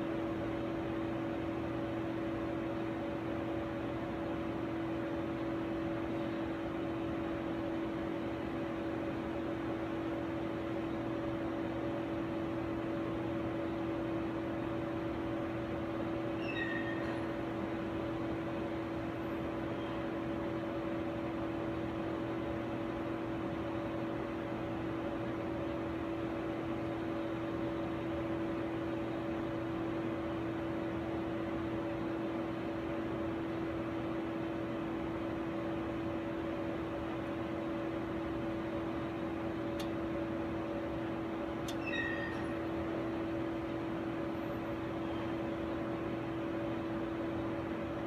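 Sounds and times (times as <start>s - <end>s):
fan-like machine hum: 0.0s - 48.0s.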